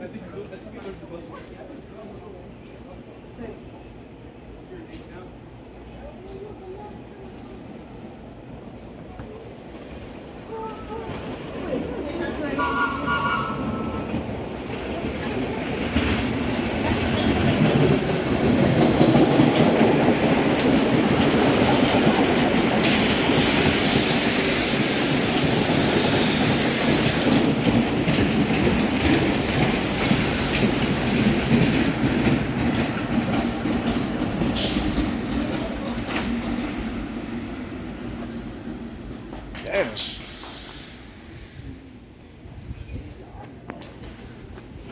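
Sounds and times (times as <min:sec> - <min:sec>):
subway train clattering on rails: 0:00.0 - 0:44.9.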